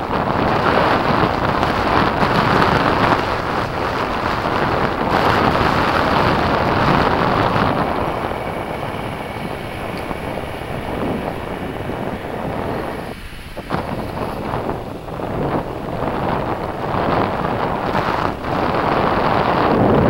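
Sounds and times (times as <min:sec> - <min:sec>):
road traffic passing: 0:00.0 - 0:20.0
wind rushing over microphone: 0:00.0 - 0:20.0.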